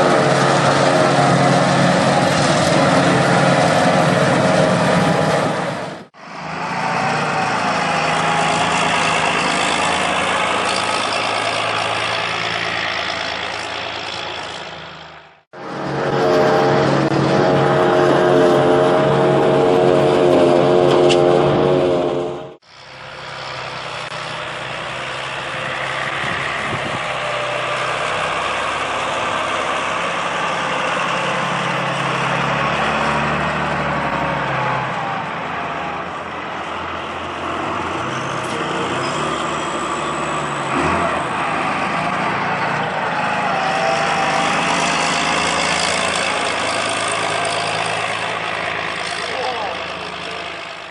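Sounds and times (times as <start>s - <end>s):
machinery whining: 0.0s - 50.9s
tractor engine running: 0.0s - 50.9s.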